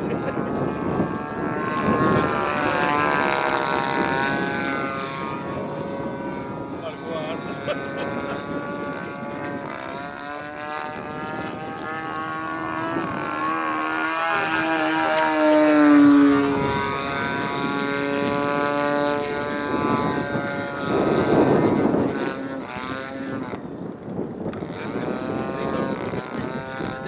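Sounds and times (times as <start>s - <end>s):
model plane engine and propeller: 0.0s - 27.0s.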